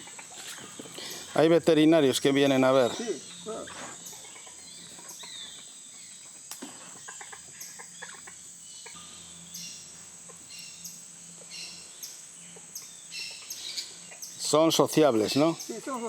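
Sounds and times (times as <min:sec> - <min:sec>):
bird chirps: 0:00.0 - 0:16.0
high-pitched insect drone: 0:00.0 - 0:16.0.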